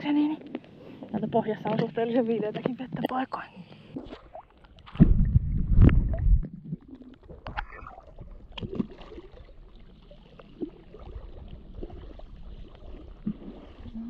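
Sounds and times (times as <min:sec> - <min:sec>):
water lapping and dripping: 0:00.0 - 0:14.0
water sloshing against a camera: 0:00.1 - 0:14.0.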